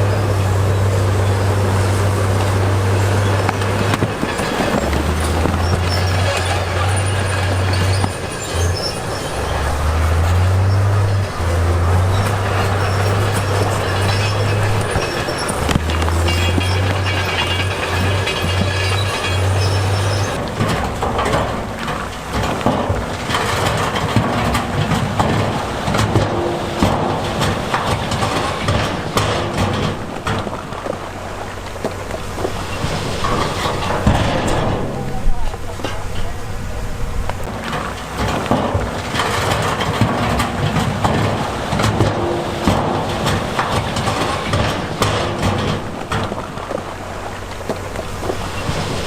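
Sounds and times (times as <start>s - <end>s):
diesel machinery drone: 0.0s - 49.0s
rocks clattering and scraping: 1.5s - 36.4s, 37.0s - 49.0s.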